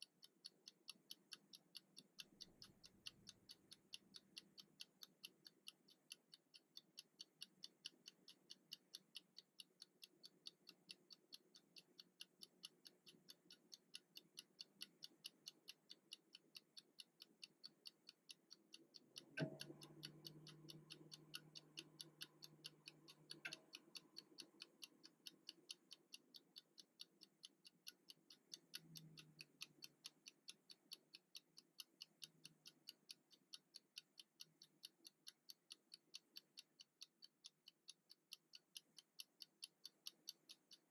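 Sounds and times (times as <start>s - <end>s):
kitchen timer ticking: 0.0s - 40.9s.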